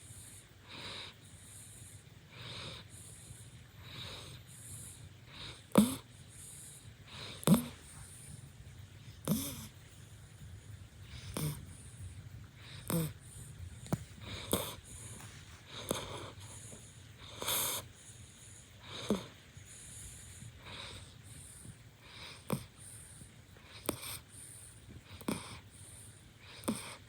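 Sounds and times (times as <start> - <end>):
puppy snoring: 0.0 - 27.0.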